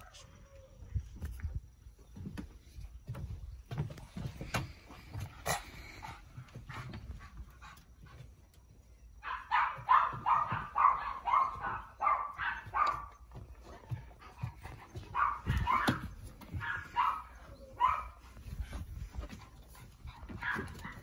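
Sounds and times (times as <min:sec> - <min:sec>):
paws scuffling on wooden decking: 0:01.1 - 0:21.0.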